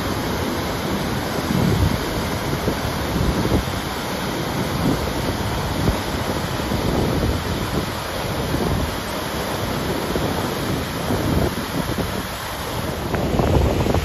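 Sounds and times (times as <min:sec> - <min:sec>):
white-water river rushing: 0:00.0 - 0:14.0
wind buffeting microphone: 0:01.2 - 0:14.0.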